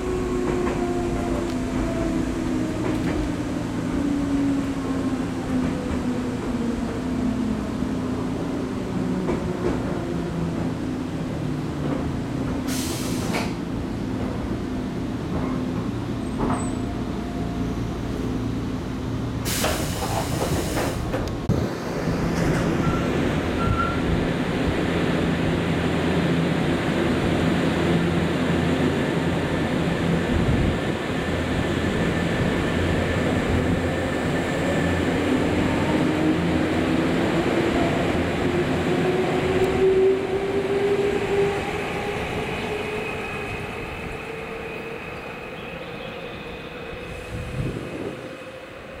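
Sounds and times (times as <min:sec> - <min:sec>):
electric train rumbling: 0:00.0 - 0:49.0.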